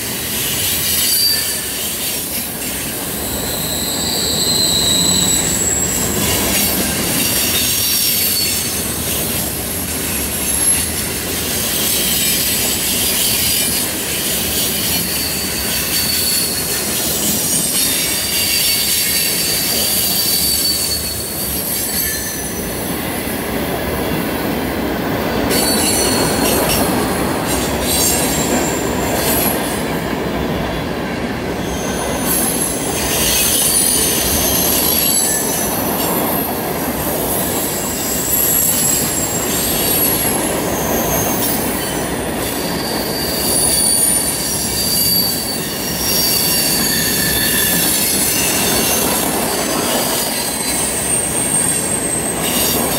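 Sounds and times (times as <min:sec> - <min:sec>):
steel wheels rumbling on rail: 0:00.0 - 0:52.9
high-pitched wheel squeal: 0:00.6 - 0:09.2, 0:11.7 - 0:22.8, 0:25.4 - 0:26.9, 0:31.6 - 0:52.9.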